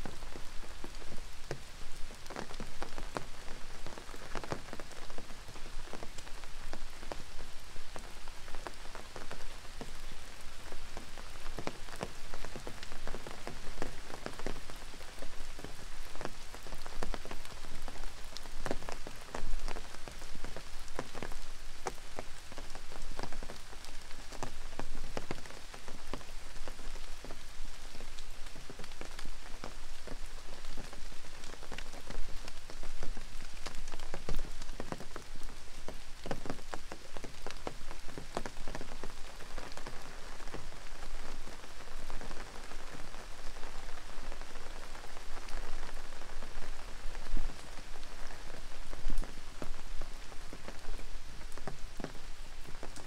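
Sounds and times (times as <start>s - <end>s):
raindrops striking nearby: 0.0s - 53.0s
steady rain hiss: 0.0s - 53.0s.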